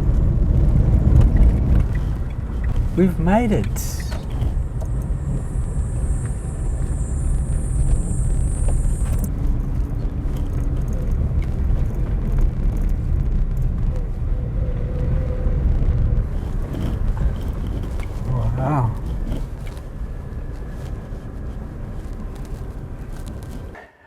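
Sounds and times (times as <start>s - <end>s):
car driving on dirt road: 0.0s - 23.9s.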